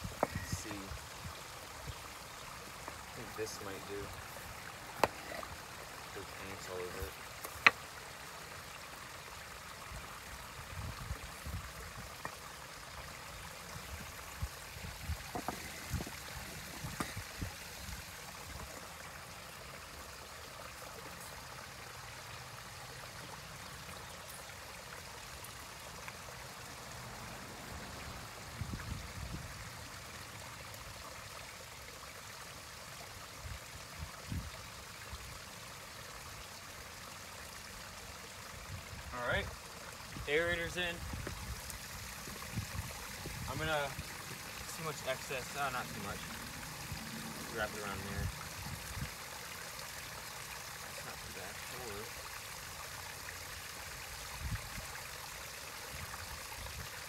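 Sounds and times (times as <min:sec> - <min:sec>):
steady background hiss: 0:00.0 - 0:28.6, 0:34.8 - 0:56.6.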